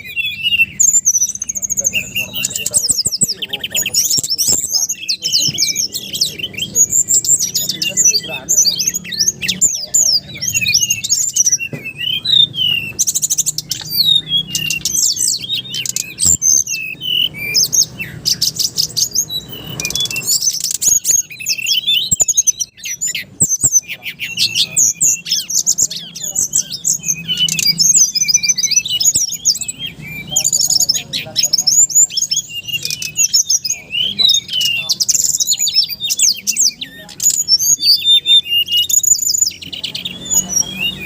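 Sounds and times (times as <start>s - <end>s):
bird singing chirps and trills: 0.0s - 41.0s.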